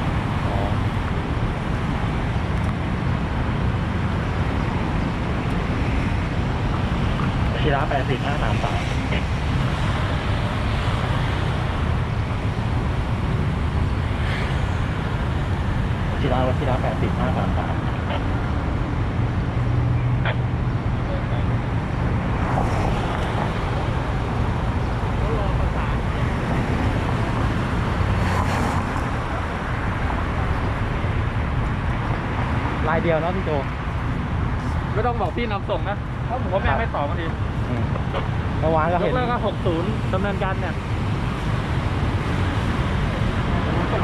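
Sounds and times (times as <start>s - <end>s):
road traffic: 0.0s - 44.0s
wind rush on microphone: 0.0s - 44.0s.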